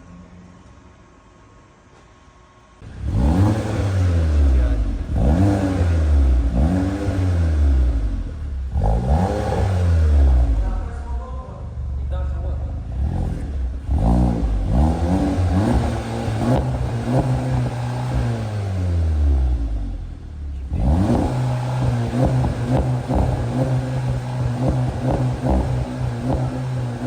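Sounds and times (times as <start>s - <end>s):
car exhaust revving: 2.8s - 27.0s.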